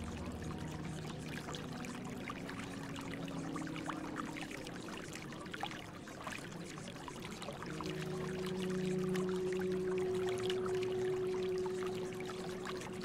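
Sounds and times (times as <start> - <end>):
soft sustained low tones: 0.0 - 13.0
trickling water: 0.0 - 13.0.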